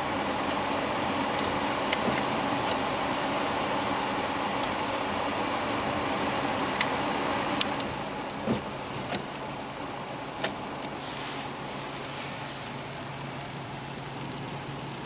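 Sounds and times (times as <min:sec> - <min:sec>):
engine idling: 0:00.0 - 0:15.0
heater blower fan hissing: 0:00.0 - 0:15.0.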